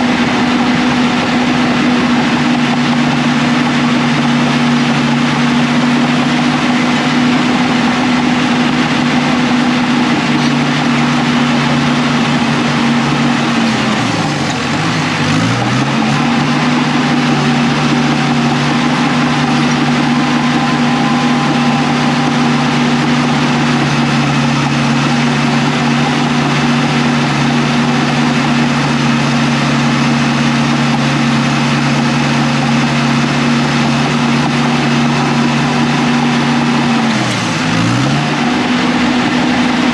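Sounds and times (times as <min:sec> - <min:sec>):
diesel engine at high revs: 0:00.0 - 0:39.9.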